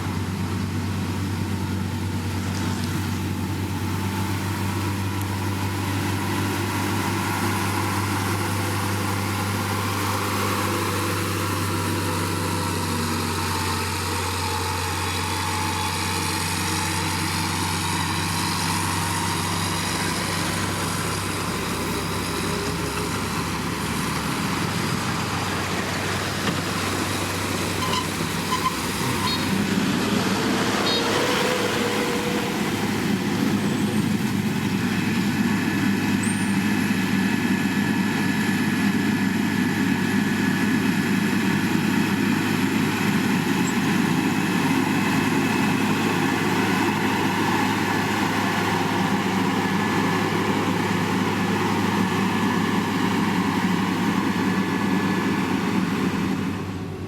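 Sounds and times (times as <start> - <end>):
heavy diesel machinery running: 0.0 - 57.0
rising engine whine: 0.0 - 57.0.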